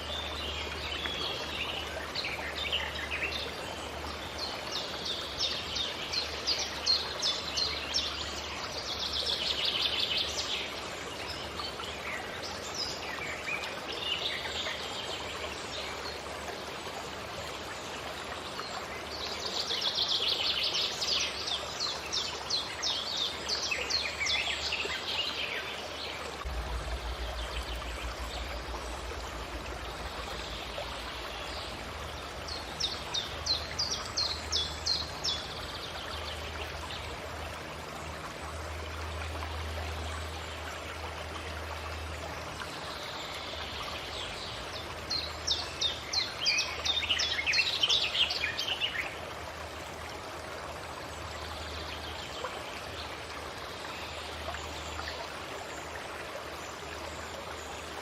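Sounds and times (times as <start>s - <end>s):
forest stream rushing: 0.0s - 58.0s.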